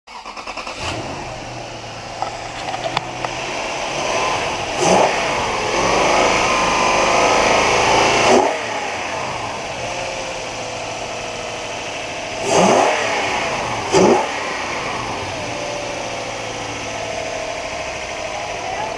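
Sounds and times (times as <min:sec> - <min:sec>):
car engine idling and revving: 0:00.1 - 0:18.9.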